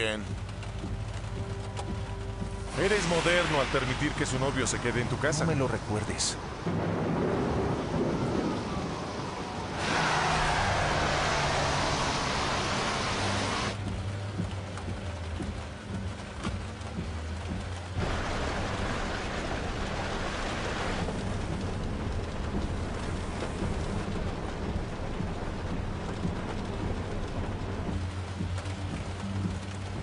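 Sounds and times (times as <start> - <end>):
rain and wind rushing: 0.0 - 30.0.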